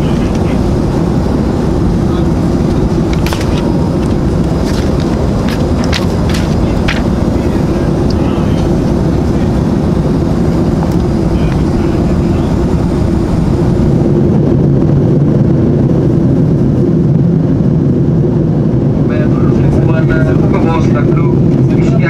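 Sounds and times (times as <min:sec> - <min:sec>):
airplane cabin engine drone: 0:00.0 - 0:22.0.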